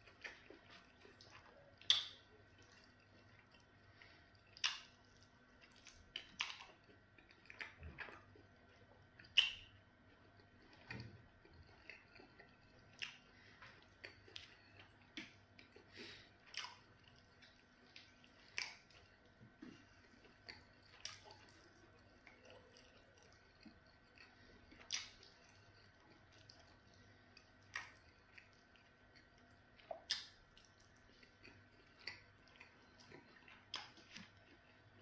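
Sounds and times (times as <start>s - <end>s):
chewing with lip smacks: 0.0s - 35.0s
fingers squishing food: 0.0s - 35.0s.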